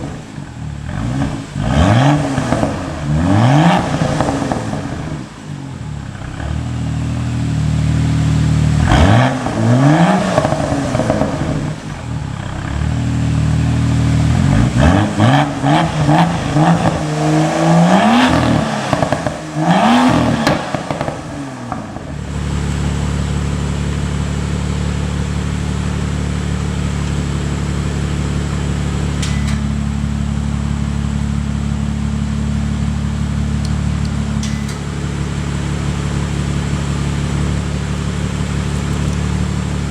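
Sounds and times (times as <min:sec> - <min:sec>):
car engine idling: 0:00.0 - 0:39.9
car engine revving: 0:00.0 - 0:39.9
exhaust crackles: 0:00.0 - 0:39.9.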